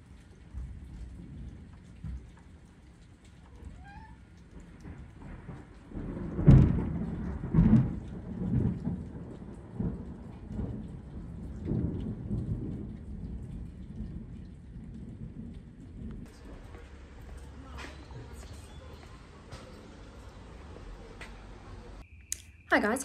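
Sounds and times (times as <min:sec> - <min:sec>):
rain falling: 0:00.0 - 0:22.0
thunder rumbling: 0:00.0 - 0:22.0.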